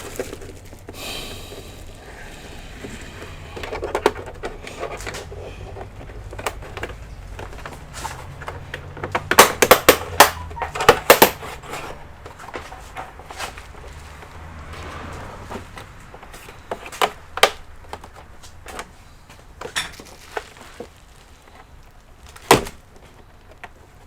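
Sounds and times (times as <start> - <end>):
plastic parts clicking and knocking: 0.0 - 14.3, 15.5 - 24.0.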